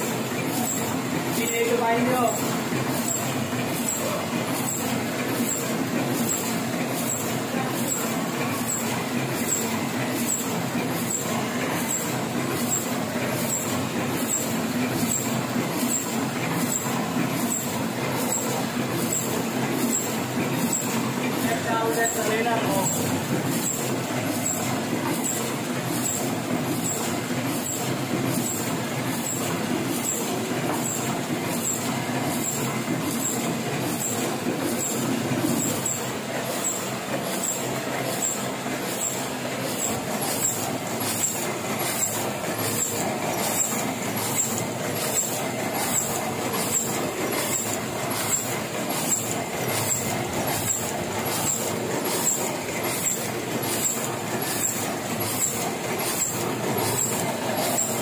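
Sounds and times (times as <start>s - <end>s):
printing press running: 0.0s - 58.0s
regular mechanical ticking: 0.0s - 58.0s.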